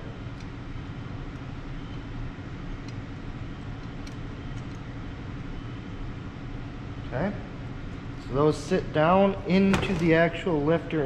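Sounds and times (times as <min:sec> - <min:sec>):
low hum of shop noise: 0:00.0 - 0:11.0.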